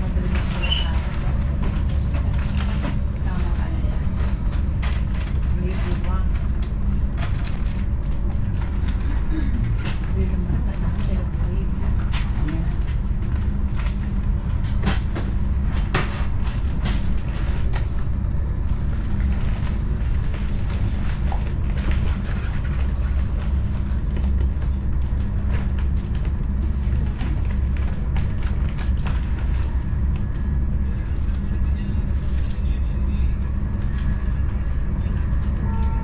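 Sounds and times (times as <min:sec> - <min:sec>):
train rumble inside carriage: 0:00.0 - 0:36.0.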